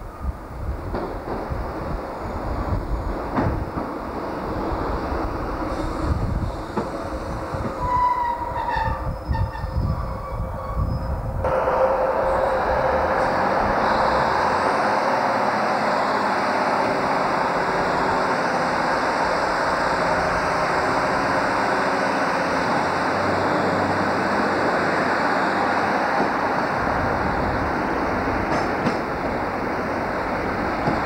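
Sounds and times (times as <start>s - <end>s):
train diesel engines droning: 0.0s - 31.0s.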